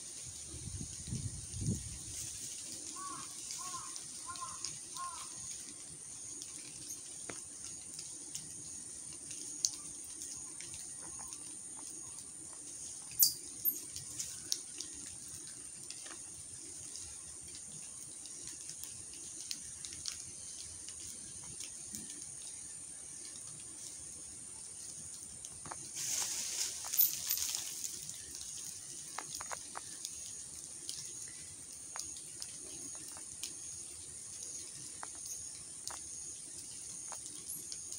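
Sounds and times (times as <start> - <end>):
high-pitched hiss: 0.0 - 37.9
water dripping from foliage: 0.0 - 37.9.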